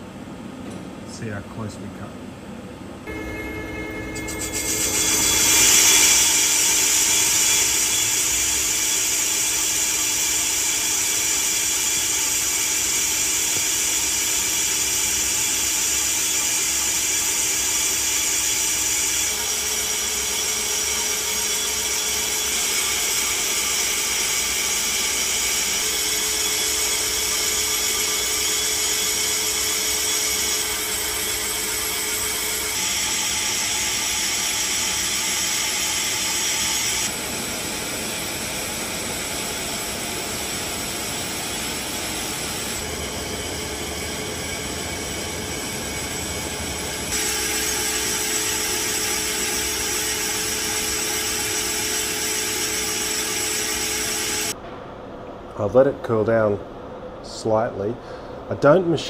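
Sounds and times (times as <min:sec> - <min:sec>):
lathe cutting metal hiss: 0:03.1 - 0:54.6.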